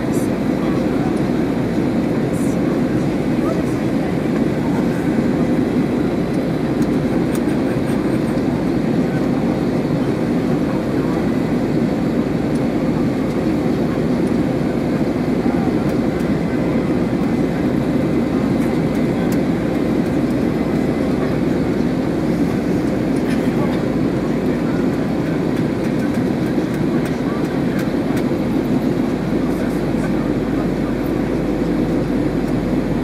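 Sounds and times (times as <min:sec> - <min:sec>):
airplane cabin engine rush: 0:00.0 - 0:33.0.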